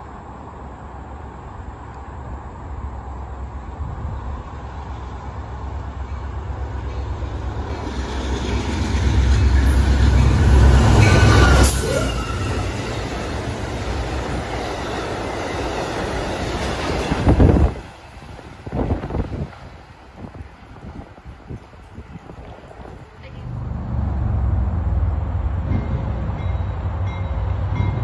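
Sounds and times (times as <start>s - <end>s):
diesel locomotive rumble: 0.0s - 28.0s
train wheel and rail noise: 0.0s - 28.0s.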